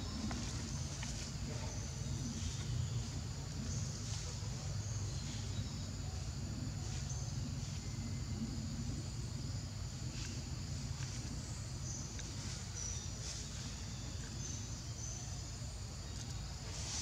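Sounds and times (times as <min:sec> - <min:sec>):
insect chirps: 0:00.0 - 0:17.0
steady low rumble: 0:00.0 - 0:17.0.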